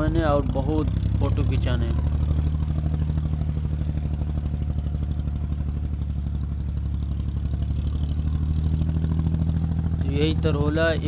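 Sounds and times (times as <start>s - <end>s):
boat diesel engine chugging: 0.0s - 11.0s.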